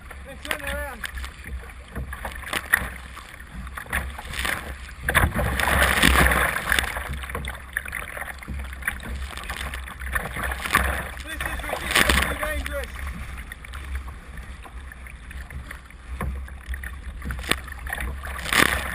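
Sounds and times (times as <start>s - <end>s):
paddle splashing through water: 0.0s - 18.9s
rush of water: 0.0s - 18.9s.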